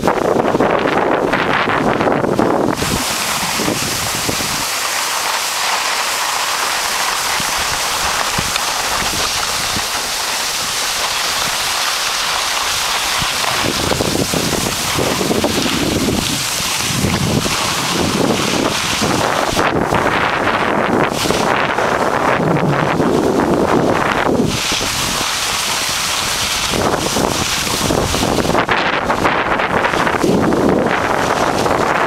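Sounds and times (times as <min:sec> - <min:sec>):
wind buffeting microphone: 0:00.0 - 0:32.0
skis sliding on snow: 0:02.4 - 0:32.0.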